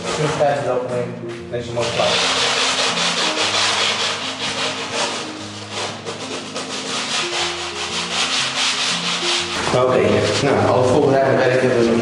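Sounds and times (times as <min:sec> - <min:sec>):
abrasive pad scratching floor: 0:00.0 - 0:00.8, 0:01.8 - 0:11.1.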